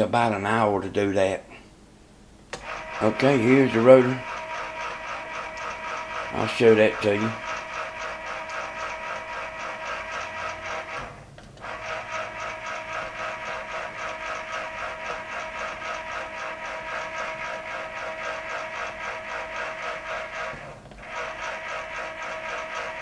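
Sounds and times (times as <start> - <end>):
rotor motor buzzing whir: 2.6 - 23.0.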